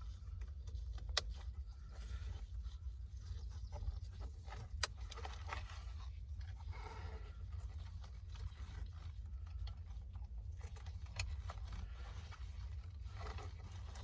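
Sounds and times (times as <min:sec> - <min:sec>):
clicks and handling noise: 0:00.0 - 0:06.8, 0:07.4 - 0:14.0
steady low rumble: 0:00.0 - 0:14.0.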